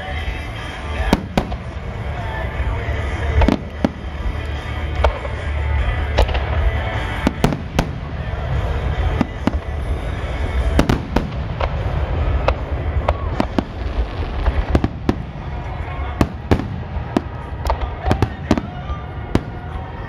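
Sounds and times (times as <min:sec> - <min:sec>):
continuous low rumble: 0:00.0 - 0:20.0
fireworks bursting: 0:00.0 - 0:20.0.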